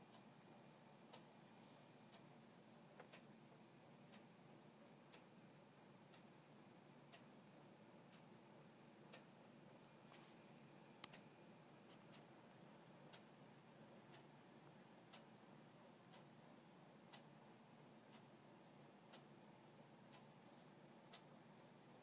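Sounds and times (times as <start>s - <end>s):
room hiss: 0.0s - 22.0s.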